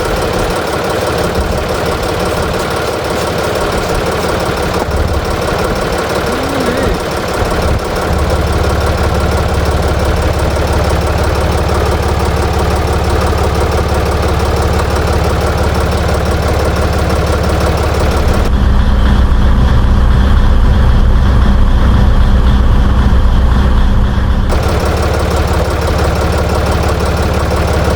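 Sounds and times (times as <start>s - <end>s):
diesel engine idling: 0.0s - 27.9s.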